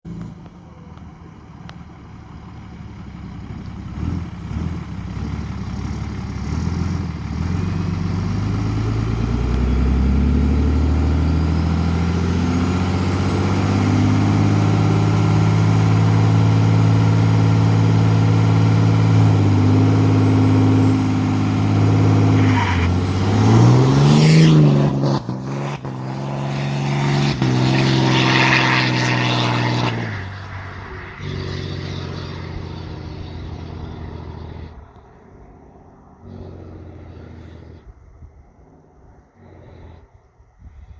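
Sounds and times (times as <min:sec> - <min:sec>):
diesel engine revving: 0:00.0 - 0:40.4.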